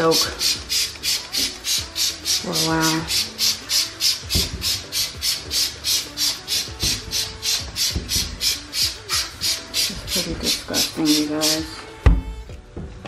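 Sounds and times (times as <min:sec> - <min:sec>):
spray bottle squirts hissing: 0:00.4 - 0:11.7.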